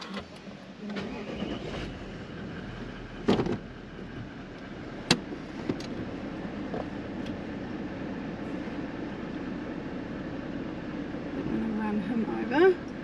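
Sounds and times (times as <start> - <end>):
engine idling inside cab: 0.0 - 13.0.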